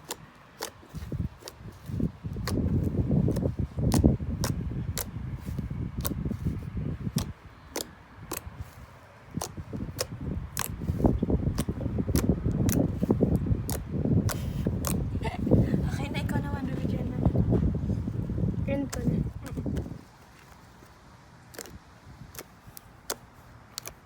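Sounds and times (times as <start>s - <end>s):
low rumble of handling: 0.8s - 21.0s.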